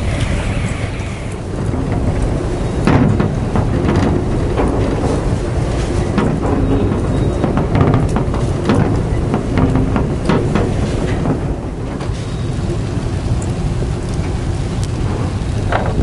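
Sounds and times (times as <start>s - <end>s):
low rush of fire: 0.0s - 16.0s.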